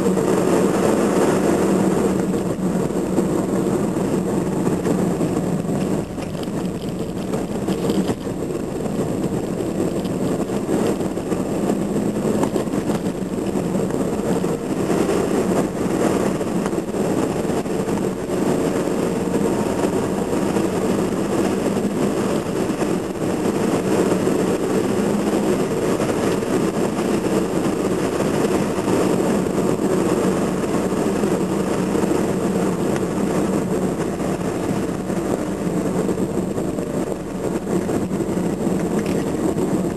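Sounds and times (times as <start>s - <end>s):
car engine hum: 0.0s - 39.9s
tyre and road rumble: 0.0s - 39.9s.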